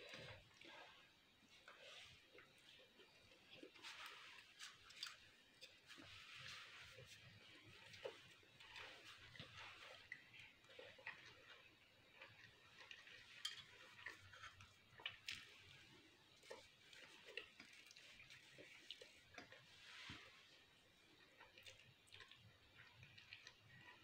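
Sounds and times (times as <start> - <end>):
faint chewing of pasta: 0.0 - 24.0.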